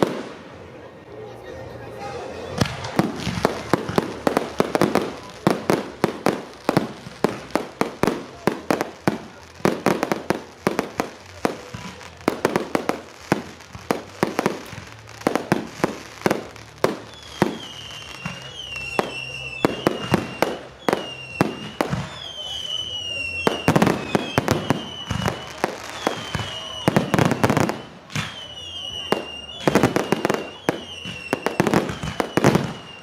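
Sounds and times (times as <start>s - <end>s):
fireworks bangs and pops: 0.0s - 0.6s, 2.5s - 33.0s.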